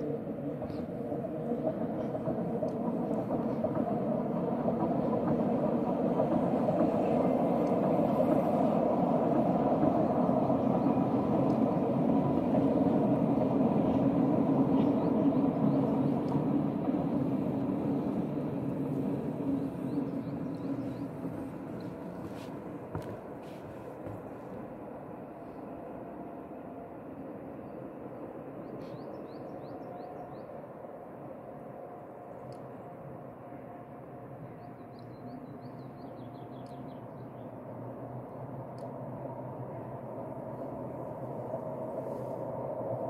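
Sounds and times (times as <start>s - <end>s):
electric train wheels rumbling: 0.0s - 35.8s, 37.0s - 43.0s.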